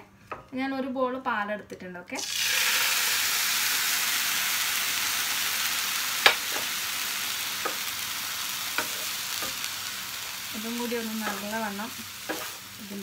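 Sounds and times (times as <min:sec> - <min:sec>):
milk sizzling in a hot pan: 0:02.2 - 0:13.0.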